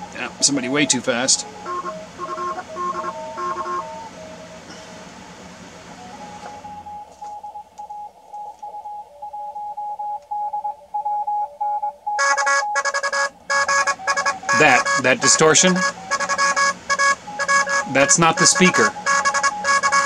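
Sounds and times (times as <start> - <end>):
morse code beeps: 0.0 - 4.5, 6.1 - 20.0
fainter lower morse signal: 0.0 - 20.0
radio band noise hiss: 0.0 - 20.0.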